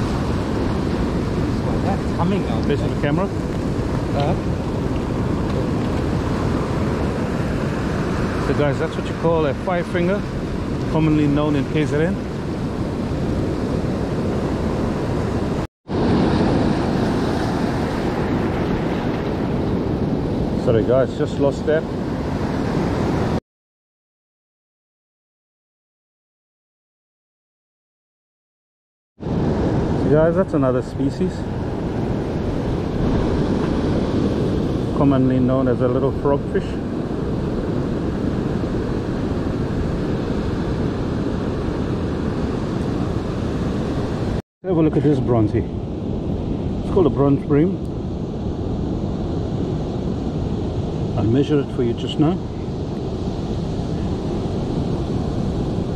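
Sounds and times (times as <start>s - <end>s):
ocean surf breaking on rocks: 0.0s - 23.4s, 29.2s - 55.9s
wind rumbling on microphone: 0.0s - 23.4s, 29.2s - 55.9s.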